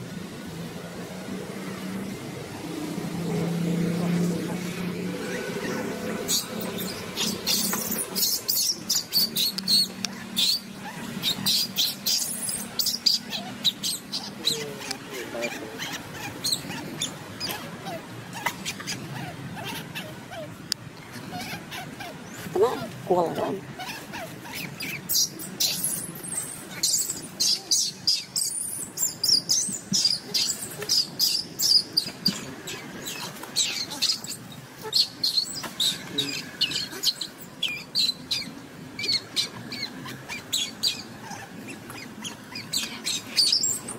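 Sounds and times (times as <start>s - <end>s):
baby monkey squealing: 5.2s - 43.9s.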